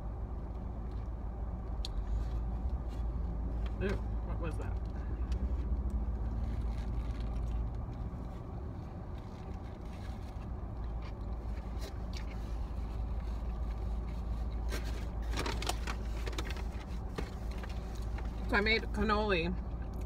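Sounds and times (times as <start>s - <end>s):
car interior rumble: 0.0s - 20.0s
crackly rustling: 0.4s - 18.6s.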